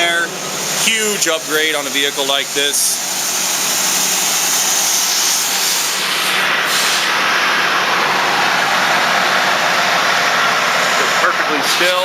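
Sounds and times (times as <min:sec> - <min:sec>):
engine idling hum: 0:00.0 - 0:12.0
loud steady hiss: 0:00.0 - 0:12.0.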